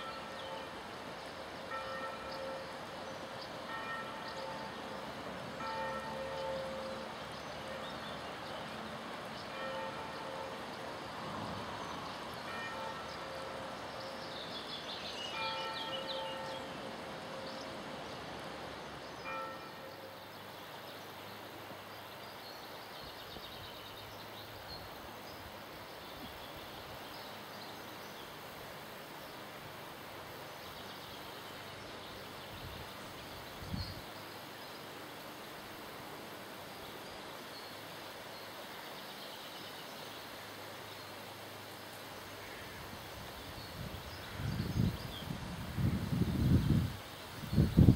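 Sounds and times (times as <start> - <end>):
river water rushing: 0.0 - 44.3.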